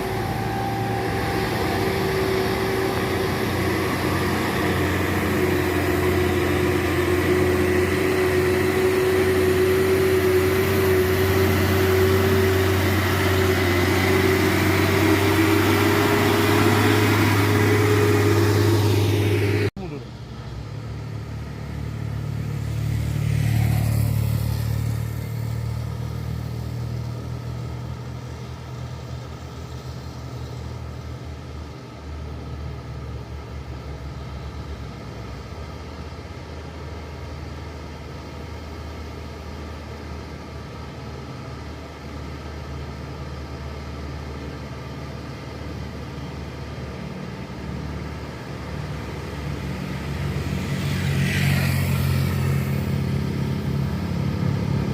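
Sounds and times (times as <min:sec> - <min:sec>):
truck diesel engine rumbling: 0:00.0 - 0:54.9.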